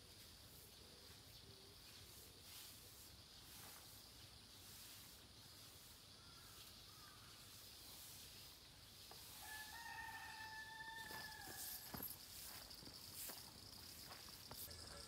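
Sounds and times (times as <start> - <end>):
faint high hiss: 0.0 - 15.0.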